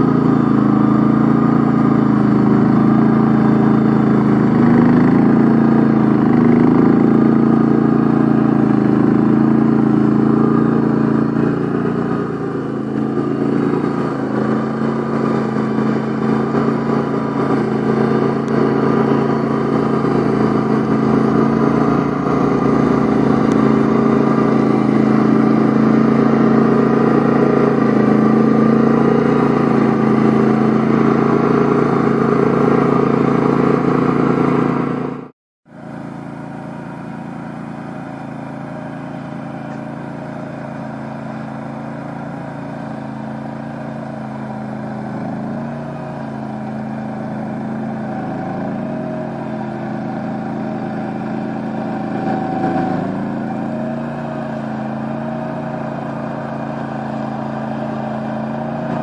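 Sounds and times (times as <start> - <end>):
flail mower cutting grass: 0.0 - 59.0
tractor engine running: 0.0 - 59.0.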